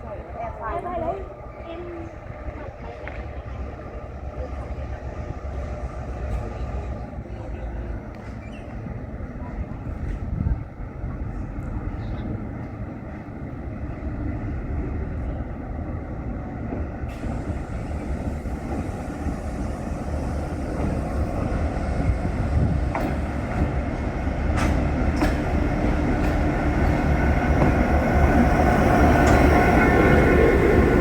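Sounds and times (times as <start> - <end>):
locomotive engine and wheel rumble: 0.0 - 31.0.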